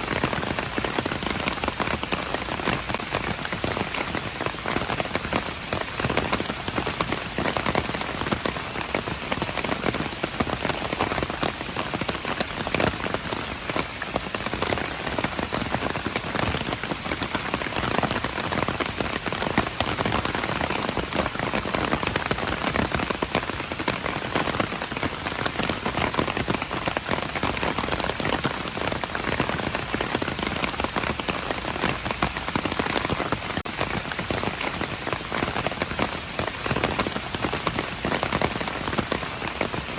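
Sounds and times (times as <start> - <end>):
rain pattering on hard surfaces: 0.0 - 39.9.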